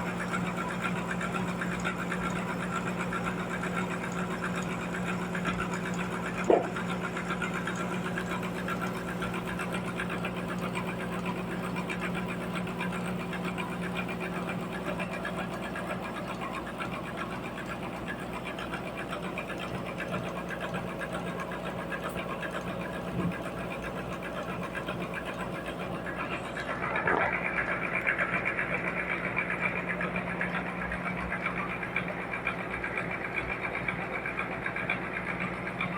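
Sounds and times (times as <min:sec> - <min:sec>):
sawmill machinery humming and rattling: 0:00.0 - 0:35.9.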